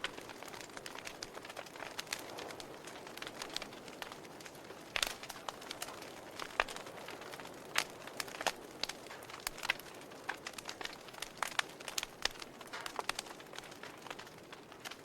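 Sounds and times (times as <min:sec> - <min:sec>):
loud fire pops: 0:00.0 - 0:15.0
soft steady hiss: 0:00.0 - 0:15.0
wood fire crackling: 0:00.0 - 0:15.0.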